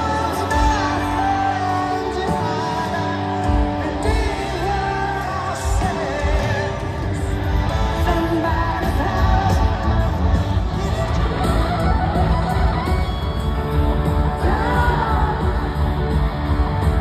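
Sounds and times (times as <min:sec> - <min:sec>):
drums: 0:00.0 - 0:17.0
electric guitars: 0:00.0 - 0:17.0
keyboards: 0:00.0 - 0:17.0
lead singer: 0:00.0 - 0:17.0.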